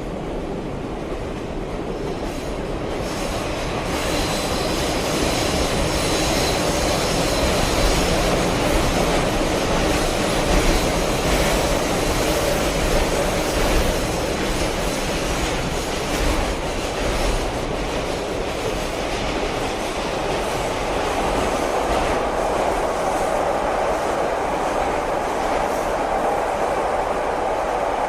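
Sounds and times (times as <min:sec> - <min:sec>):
train running on rails: 0:00.0 - 0:28.0.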